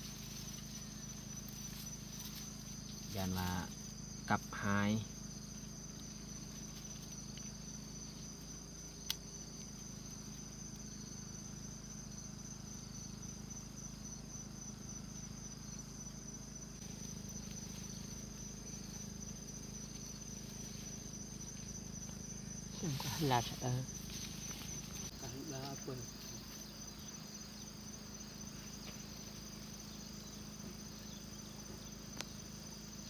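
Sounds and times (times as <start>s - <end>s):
crickets and insects trilling: 0.0s - 33.0s.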